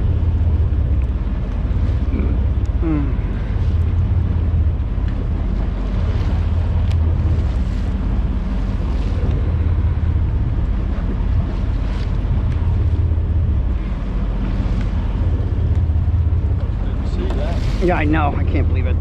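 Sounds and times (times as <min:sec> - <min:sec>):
boat engine humming: 0:00.0 - 0:19.0
wind buffeting microphone: 0:00.0 - 0:19.0.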